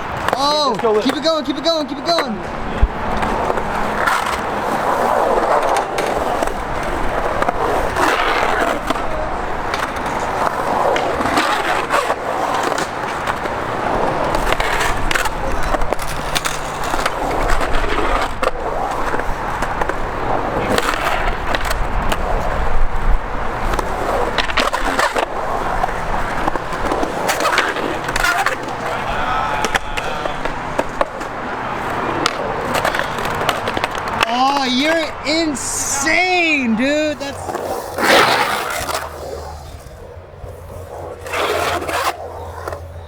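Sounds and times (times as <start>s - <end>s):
skateboard clacking on ground: 0.0s - 43.0s
skateboard wheels rolling on concrete: 0.0s - 43.0s.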